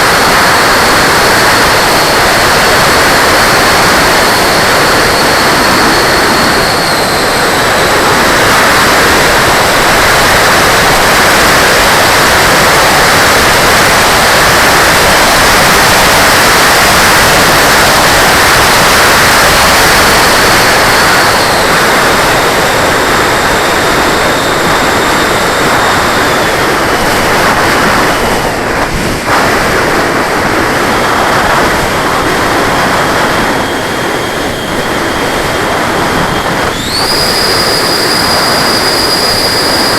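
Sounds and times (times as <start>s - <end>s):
electric ducted fan rushing: 0.0s - 39.9s
fan high whine: 0.0s - 39.9s.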